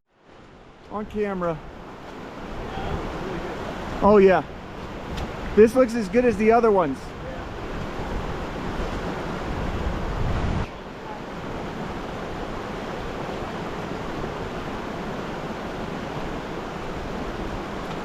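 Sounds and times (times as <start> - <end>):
creek water flowing: 0.1 - 18.0
wind rumble on microphone: 1.0 - 5.6, 7.0 - 18.0.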